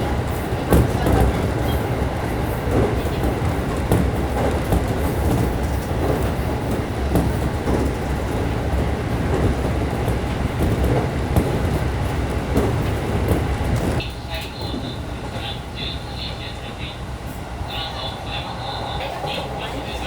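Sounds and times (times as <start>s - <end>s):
train wheels rumbling on rail: 0.0s - 20.0s
wheels clacking over rail joints: 0.0s - 20.0s.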